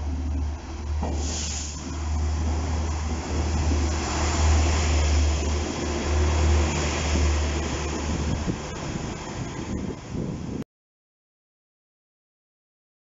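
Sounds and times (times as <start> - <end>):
diesel train engine rumble: 0.0 - 10.6
wheel and rail noise: 0.0 - 10.6.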